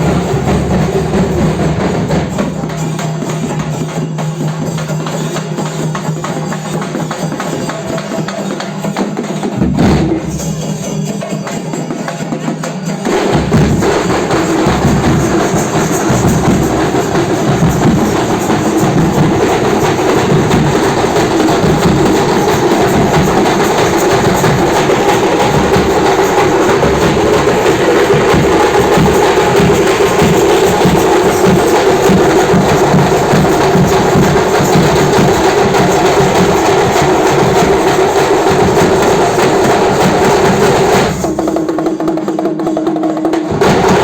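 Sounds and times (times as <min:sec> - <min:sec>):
ritual drumming: 0:00.0 - 0:44.0.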